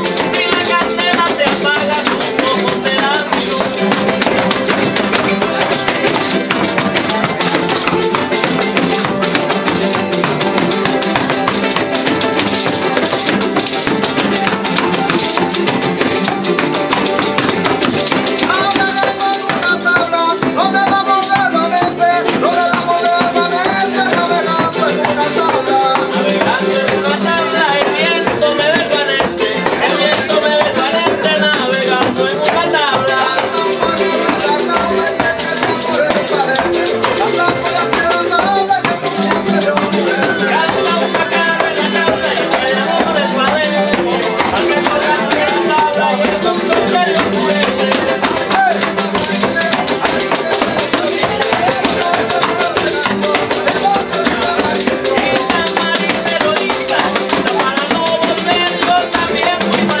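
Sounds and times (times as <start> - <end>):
footwork stamping on wooden platform: 0.0 - 27.1, 27.8 - 59.9
strummed and plucked guitars: 0.0 - 60.0
voices singing: 0.0 - 60.0.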